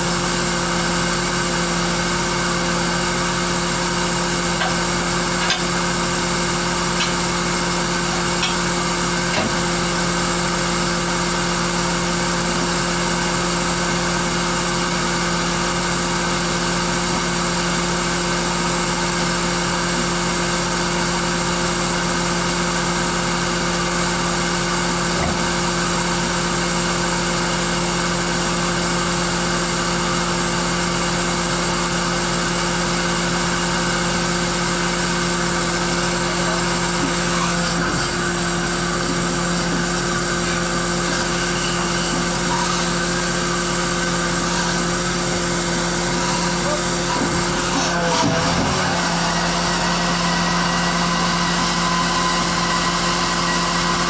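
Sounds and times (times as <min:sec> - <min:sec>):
hydraulic machine hum: 0:00.0 - 0:54.0.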